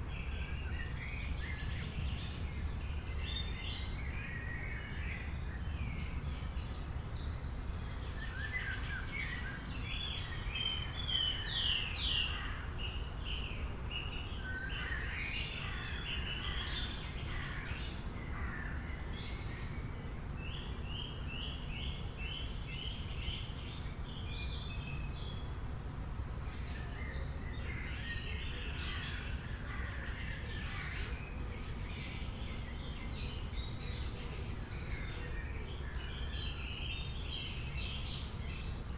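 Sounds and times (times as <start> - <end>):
small birds chirping and trilling: 0.0 - 25.5, 26.4 - 38.9.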